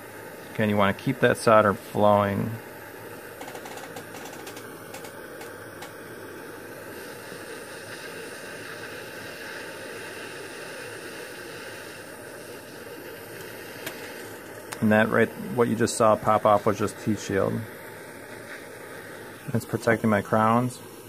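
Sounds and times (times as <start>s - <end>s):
soldering torch hissing: 0.0s - 21.0s.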